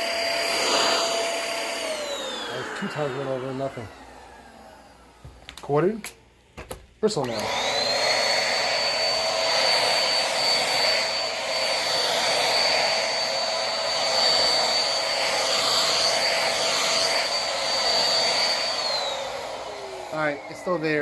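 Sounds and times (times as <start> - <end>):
vacuum cleaner running: 0.0 - 6.0, 7.2 - 21.0.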